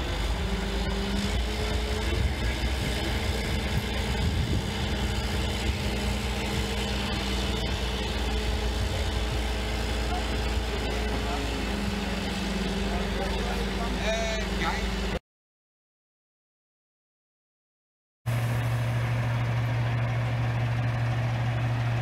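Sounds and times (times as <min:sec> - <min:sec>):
crane engine rumbling: 0:00.0 - 0:15.2, 0:18.3 - 0:22.0.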